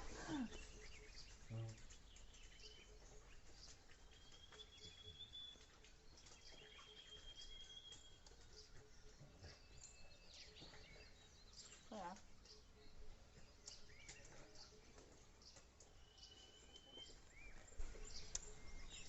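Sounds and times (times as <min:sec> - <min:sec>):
distant bird chirps: 0:00.0 - 0:19.0.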